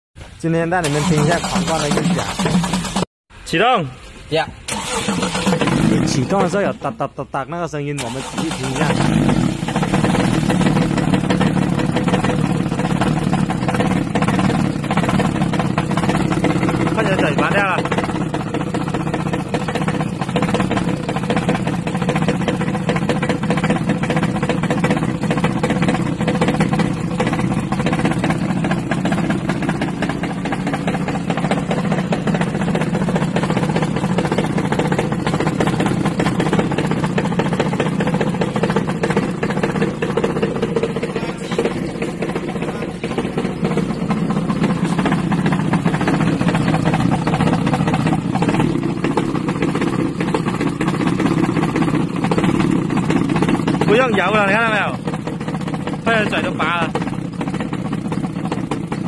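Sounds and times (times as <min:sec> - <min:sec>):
car engine idling with ticking: 0:00.8 - 0:03.1, 0:08.0 - 0:59.0.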